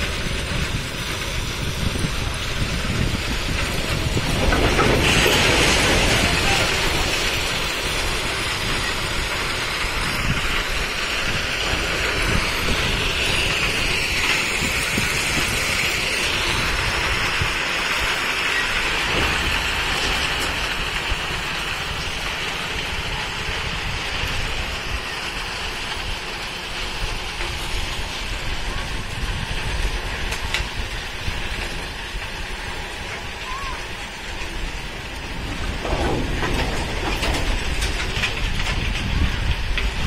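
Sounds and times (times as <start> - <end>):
stones pouring onto track: 0.0 - 40.0
wagons rolling on rails: 0.0 - 40.0.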